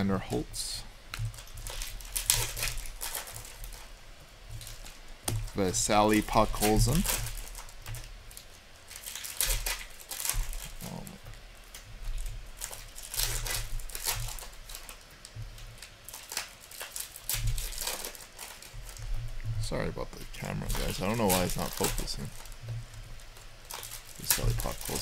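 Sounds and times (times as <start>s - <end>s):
trading cards rustling: 1.3s - 3.9s, 4.5s - 15.1s, 15.8s - 19.0s, 19.7s - 22.6s, 23.3s - 25.0s.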